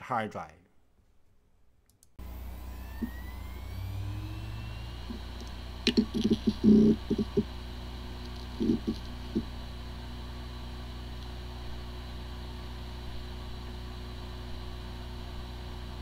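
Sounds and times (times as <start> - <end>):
hard drive humming: 2.2 - 16.0.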